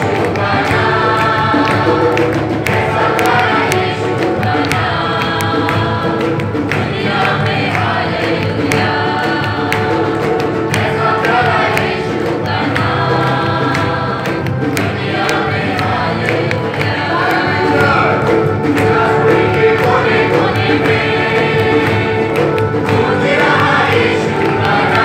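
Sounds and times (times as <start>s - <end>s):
choir singing worship song: 0.0s - 25.0s
hand claps: 0.0s - 25.0s.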